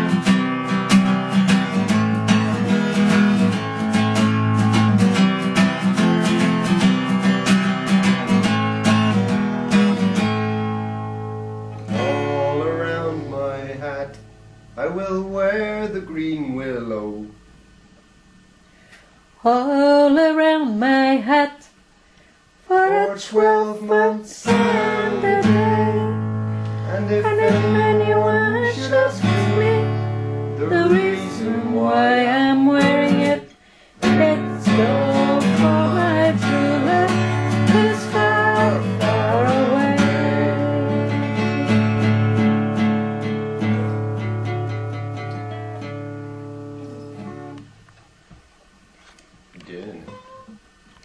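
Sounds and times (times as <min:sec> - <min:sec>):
acoustic guitar picked and strummed: 0:00.0 - 0:17.3, 0:22.7 - 0:48.0, 0:49.0 - 0:51.0.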